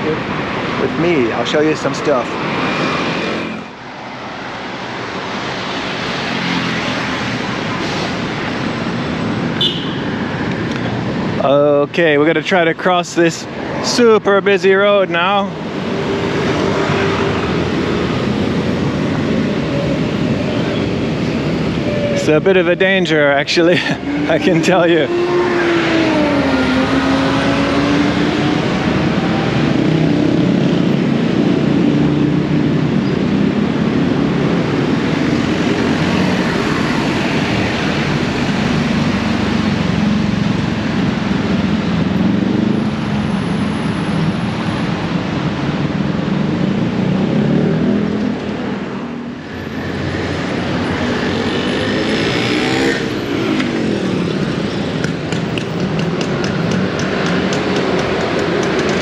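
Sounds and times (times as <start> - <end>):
vehicles passing and revving: 0.0 - 59.0.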